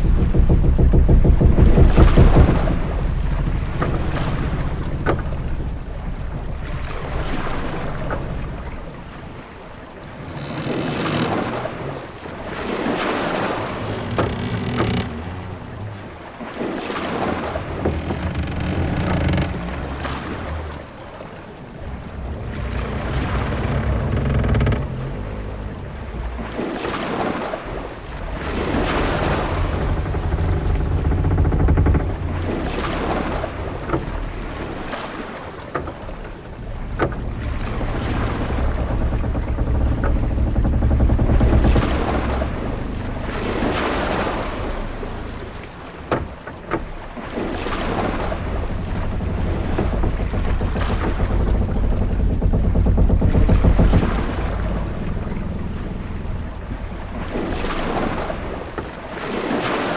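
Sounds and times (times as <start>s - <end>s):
low rumble: 0.0s - 16.4s, 17.0s - 59.3s
waves washing past hull: 0.0s - 59.9s
wind: 0.0s - 59.9s.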